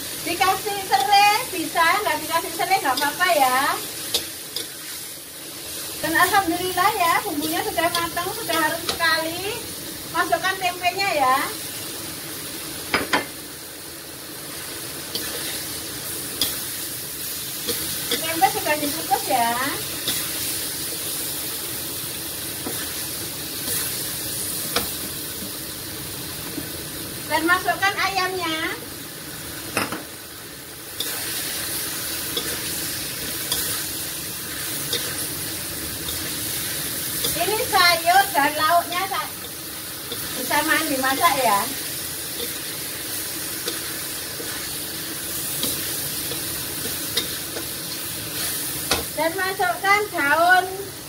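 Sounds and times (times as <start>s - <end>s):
food sizzling in hot oil: 0.0s - 51.0s.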